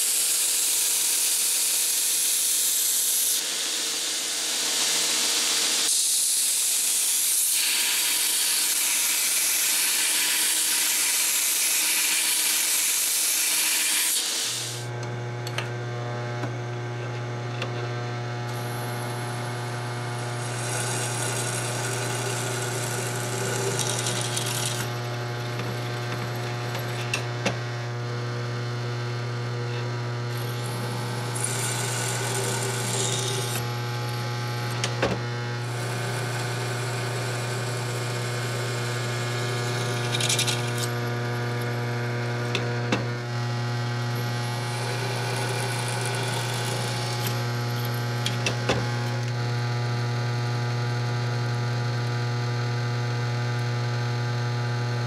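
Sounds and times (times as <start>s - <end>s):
belt grinder grinding steel: 0.0s - 15.1s, 17.7s - 28.0s, 29.1s - 50.4s
drill press drilling steel: 0.1s - 15.6s, 18.5s - 27.7s, 29.7s - 49.6s.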